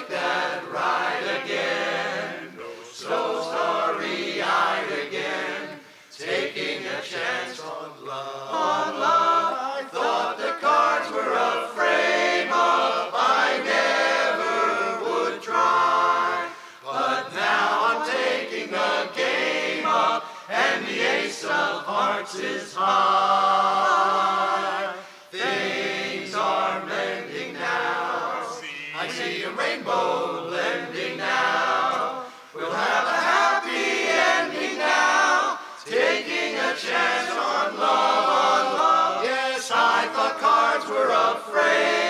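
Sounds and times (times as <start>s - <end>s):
men's chorus singing a cappella: 0.0s - 42.0s.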